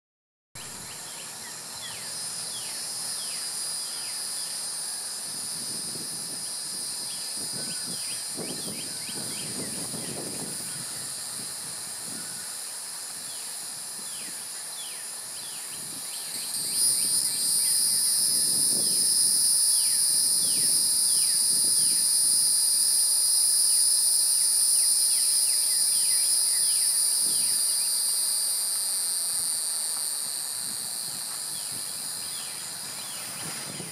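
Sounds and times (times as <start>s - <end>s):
insects buzzing: 0.6s - 33.9s.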